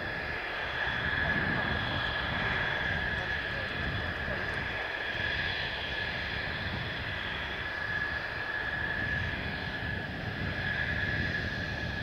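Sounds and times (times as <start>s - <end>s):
jet engine whine and rumble: 0.0s - 12.0s.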